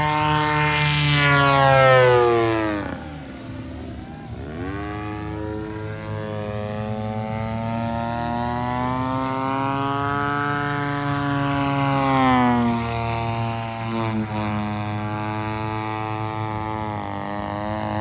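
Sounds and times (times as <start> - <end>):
model airplane propeller and motor: 0.0 - 18.0.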